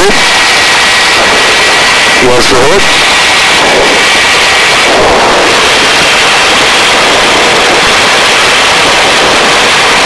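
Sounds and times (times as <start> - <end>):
helicopter hovering: 0.0 - 10.0.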